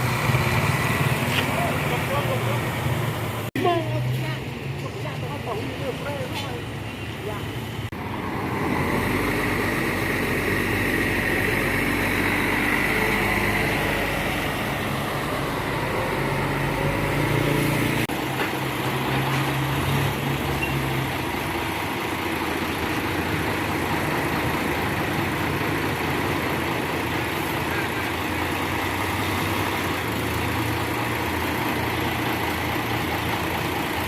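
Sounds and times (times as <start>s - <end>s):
bus engine running: 0.0s - 34.0s
traffic noise: 0.0s - 34.0s.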